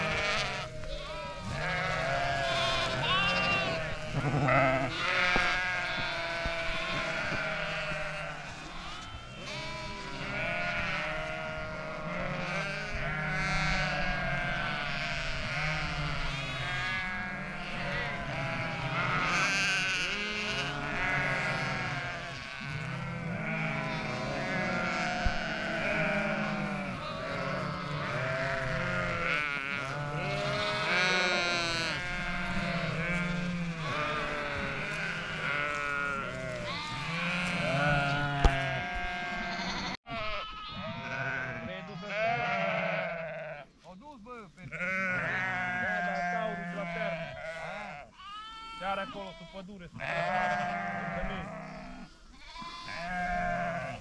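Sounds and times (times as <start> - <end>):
sheep bleating: 0.0 - 43.8, 44.6 - 54.0.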